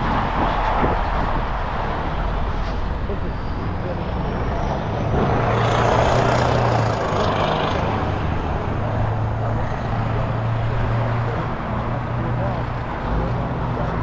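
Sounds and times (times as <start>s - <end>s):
vehicle passing: 1.9s - 14.0s.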